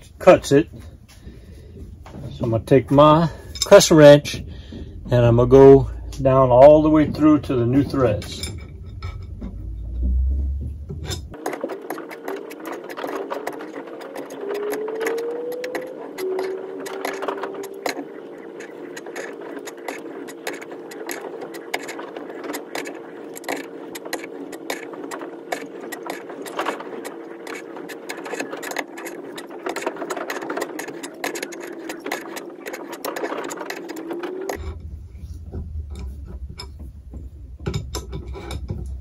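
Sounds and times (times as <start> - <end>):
metallic clicks and scraping: 0.0 - 39.0
steady background hum: 0.0 - 39.0.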